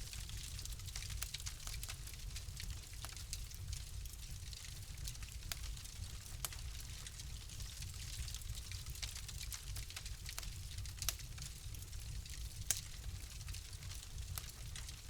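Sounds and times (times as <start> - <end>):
fire popping and snapping: 0.0 - 15.0.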